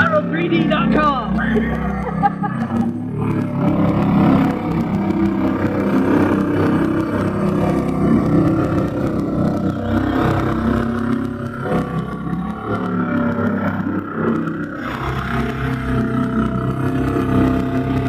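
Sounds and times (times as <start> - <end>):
small boat motors droning: 0.0 - 18.0.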